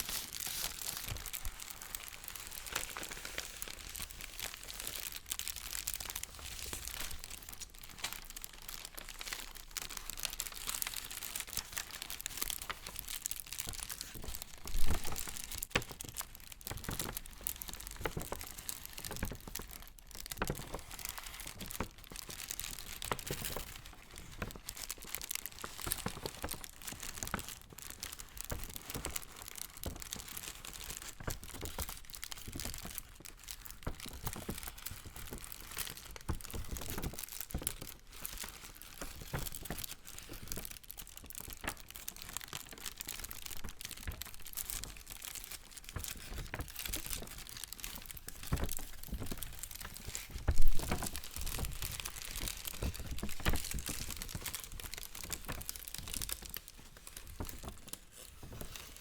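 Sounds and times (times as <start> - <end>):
paper crinkling and rustling: 0.0 - 59.0.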